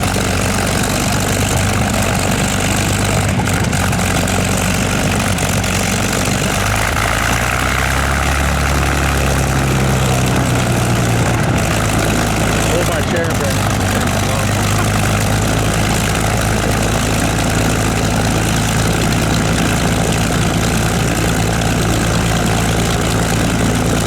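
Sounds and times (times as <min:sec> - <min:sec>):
propeller aircraft engine droning: 0:00.0 - 0:24.0.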